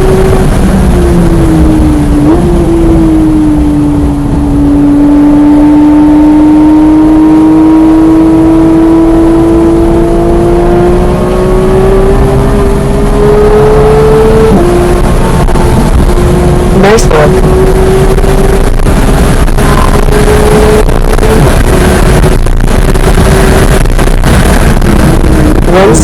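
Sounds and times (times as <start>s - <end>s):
car engine revving: 0.0s - 26.0s
road and wind noise: 0.0s - 26.0s.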